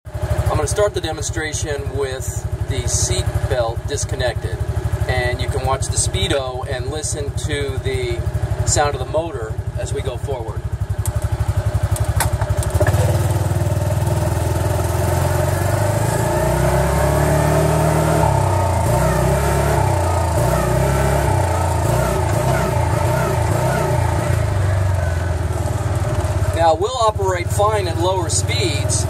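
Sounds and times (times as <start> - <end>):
utility vehicle engine wavering: 0.1 - 29.0.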